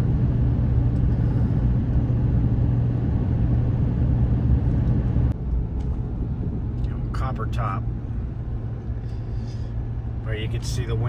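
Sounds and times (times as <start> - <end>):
vehicle driving inside cab: 0.0 - 11.0.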